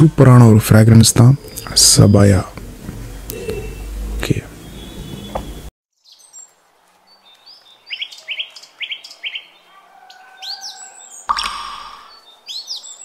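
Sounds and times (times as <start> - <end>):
birds chirping: 0.8 - 13.0.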